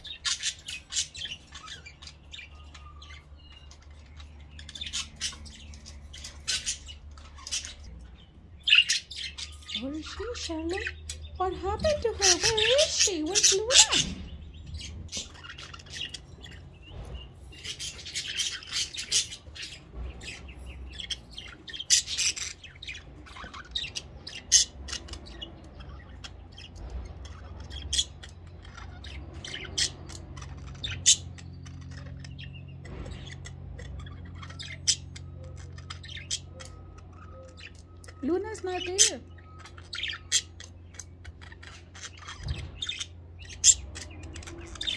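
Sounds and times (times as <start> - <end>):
budgerigars chirping and squawking: 0.0 - 44.9.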